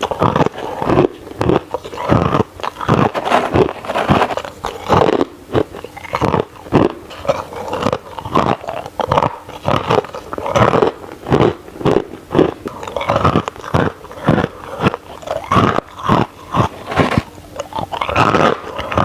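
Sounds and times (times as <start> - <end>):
crushed ice crunching in mouth: 0.0 - 19.0.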